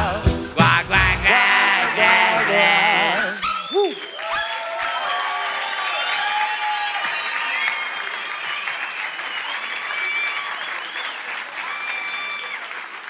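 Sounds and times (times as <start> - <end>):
crowd shouts: 1.2 - 12.8
audience applauding and cheering: 1.3 - 13.0.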